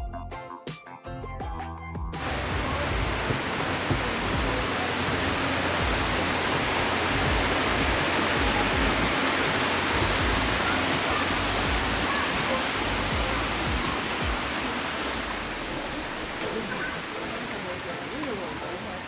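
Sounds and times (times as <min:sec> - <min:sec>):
waterfall rushing over rocks: 0:02.2 - 0:19.0.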